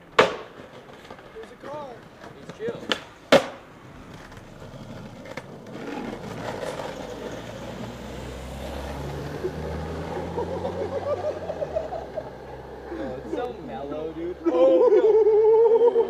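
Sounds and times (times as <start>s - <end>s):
skateboard wheels rolling on asphalt: 0.0s - 14.6s.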